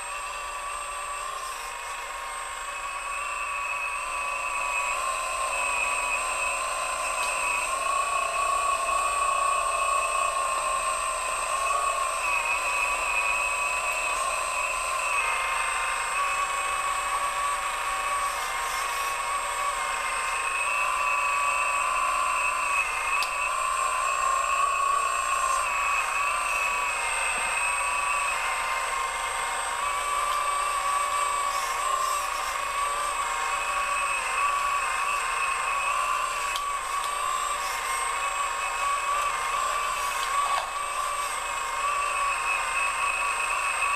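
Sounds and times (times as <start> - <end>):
model excavator electric whine: 0.0 - 43.9.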